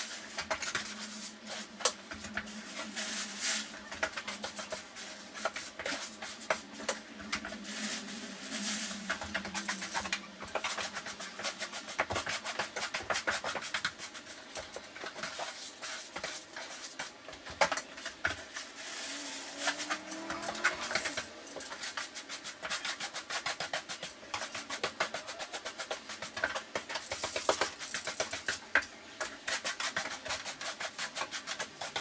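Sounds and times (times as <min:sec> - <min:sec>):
broom sweeping litter on wood floor: 0:00.0 - 0:28.6.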